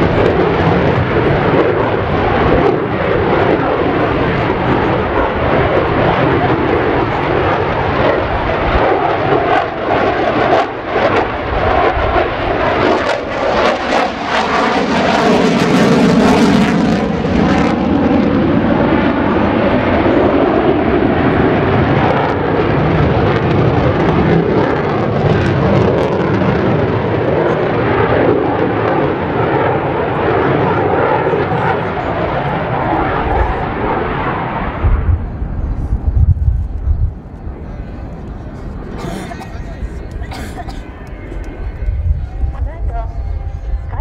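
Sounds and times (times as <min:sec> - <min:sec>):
jet engines roaring overhead: 0:00.0 - 0:44.0.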